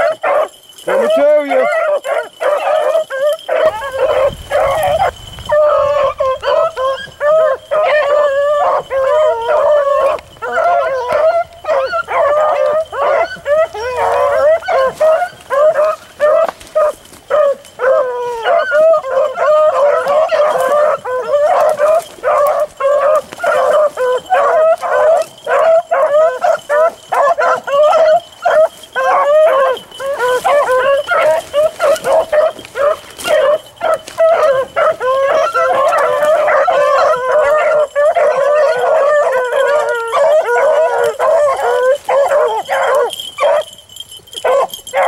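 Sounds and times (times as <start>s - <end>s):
hounds baying: 0.0s - 45.0s.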